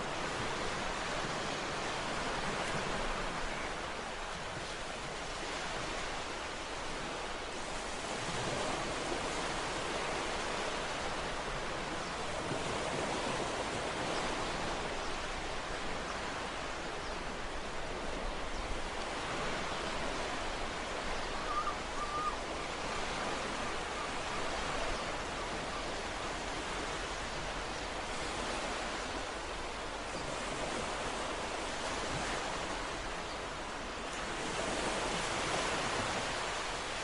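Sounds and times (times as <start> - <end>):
ocean waves washing ashore: 0.0 - 37.0.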